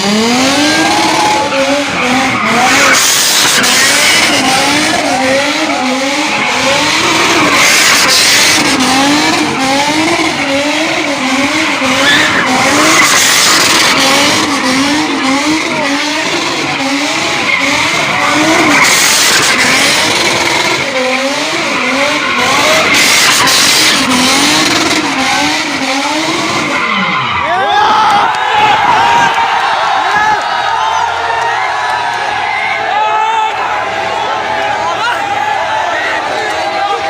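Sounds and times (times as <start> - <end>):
car tyres squealing: 0.0 - 37.0.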